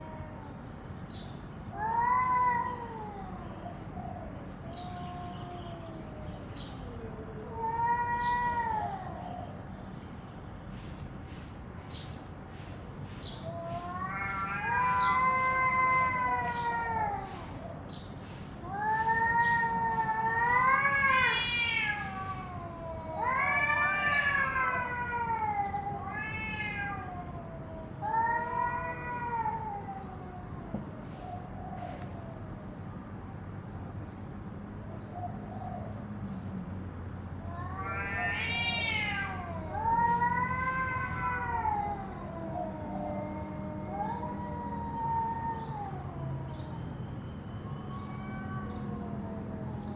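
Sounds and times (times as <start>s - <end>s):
cats yowling: 0.0s - 0.6s, 1.7s - 9.7s, 13.4s - 32.6s, 37.4s - 49.9s.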